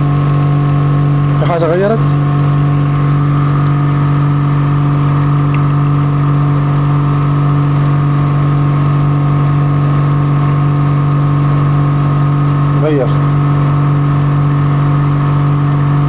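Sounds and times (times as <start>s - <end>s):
misfiring engine idling: 0.0s - 16.0s.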